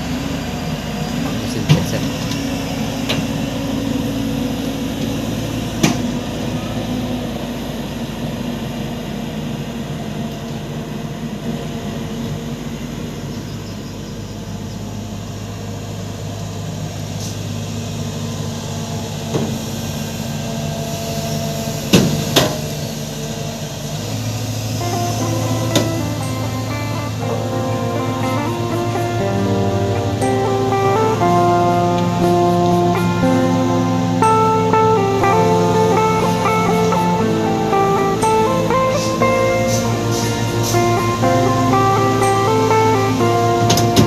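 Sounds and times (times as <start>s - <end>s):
heavy vehicle engine running: 0.0s - 44.0s.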